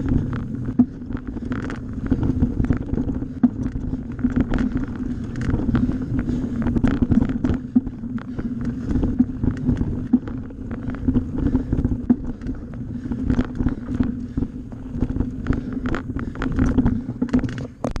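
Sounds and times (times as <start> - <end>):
wind on microphone: 0.0 - 17.9
bicycle tyres on dirt: 0.0 - 18.0
bike clicking and rattling: 0.0 - 18.0.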